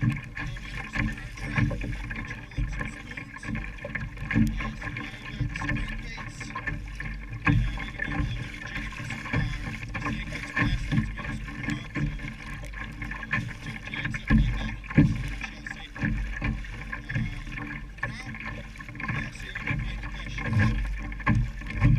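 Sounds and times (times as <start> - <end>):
muffled boomy background: 0.0 - 21.9.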